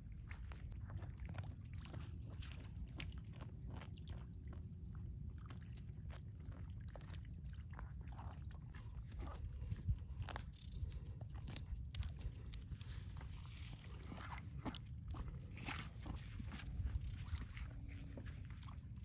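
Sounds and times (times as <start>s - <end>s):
low steady rumble: 0.0s - 19.0s
small wet splashes: 0.3s - 18.7s.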